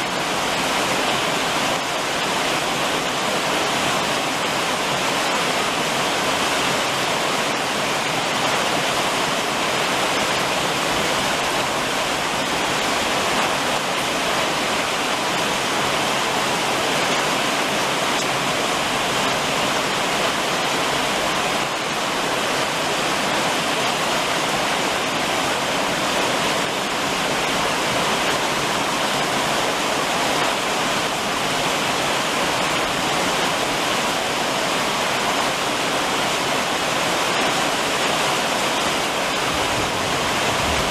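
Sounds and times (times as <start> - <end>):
rain drumming on a roof: 0.0 - 40.9.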